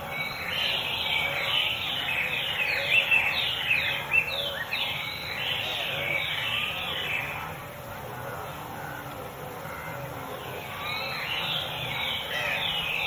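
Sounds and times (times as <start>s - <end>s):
small birds calling: 0.0s - 7.6s, 8.3s - 13.0s
wetland background hum: 0.0s - 13.0s.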